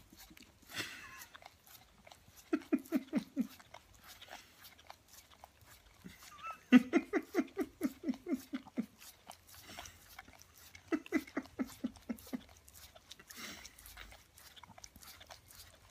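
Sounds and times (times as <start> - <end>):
dog licking wetly: 0.0 - 15.9.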